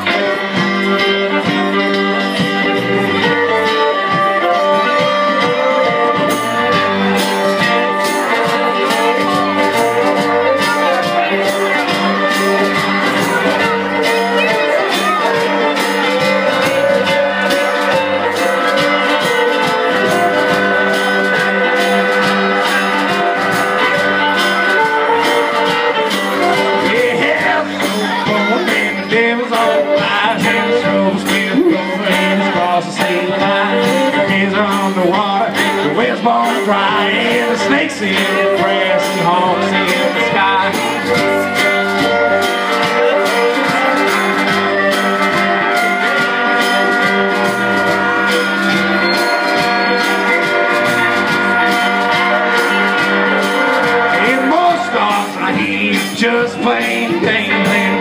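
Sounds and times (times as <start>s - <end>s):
band playing live music: 0.0s - 58.0s.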